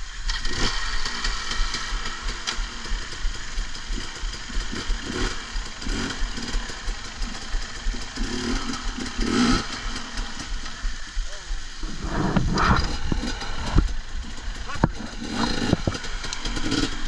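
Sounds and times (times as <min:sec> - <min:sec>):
motorcycle engine revving: 0:00.0 - 0:17.0
engine knocks: 0:00.3 - 0:17.0.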